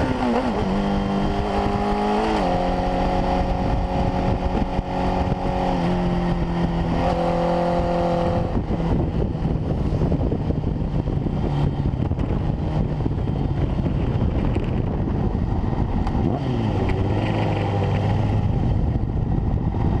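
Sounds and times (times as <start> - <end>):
motorcycle engine running: 0.0 - 20.0
wind rush: 0.0 - 20.0.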